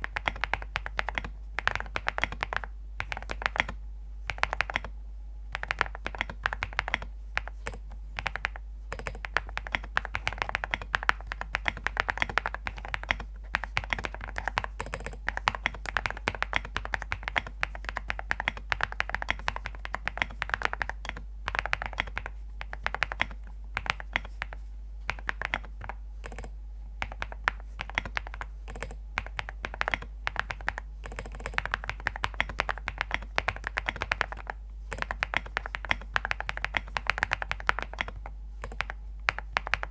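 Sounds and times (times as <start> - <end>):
mechanical keyboard typing: 0.0 - 4.9, 5.5 - 39.9.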